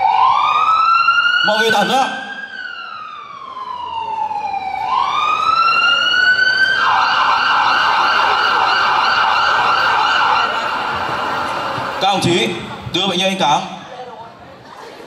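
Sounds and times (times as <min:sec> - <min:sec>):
ambulance siren wail and yelp: 0:00.0 - 0:12.1.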